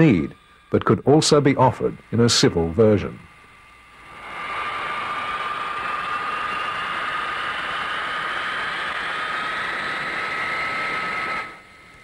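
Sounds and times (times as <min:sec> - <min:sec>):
jet engines whining at takeoff: 0:00.0 - 0:12.0.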